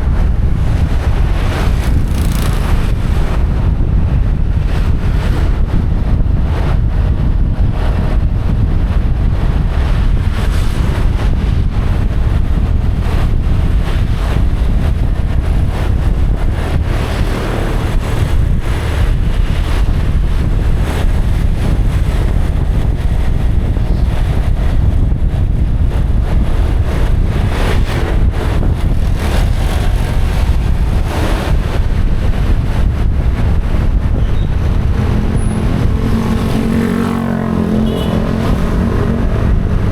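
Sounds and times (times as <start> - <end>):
motorbike running: 0.0 - 39.9
road traffic: 0.0 - 39.9
wind rushing over microphone: 0.0 - 39.9.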